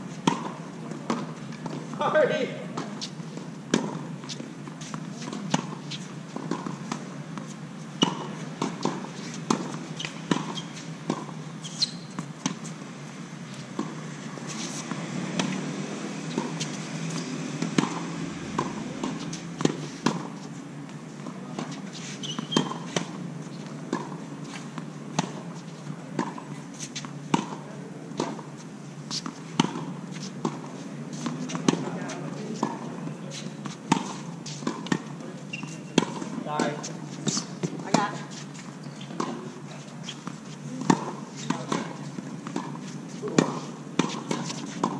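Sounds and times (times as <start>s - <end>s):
tennis balls bouncing on hard court: 0.2s - 12.8s, 13.5s - 44.9s
tennis balls struck by rackets: 0.2s - 12.9s, 13.6s - 44.9s.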